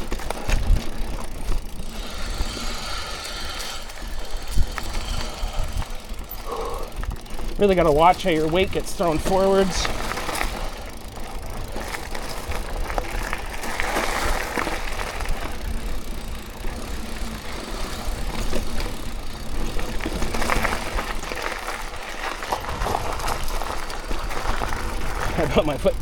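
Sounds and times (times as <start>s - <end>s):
bike clattering over bumps: 0.0s - 26.0s
bike tyres on dirt: 0.0s - 26.0s.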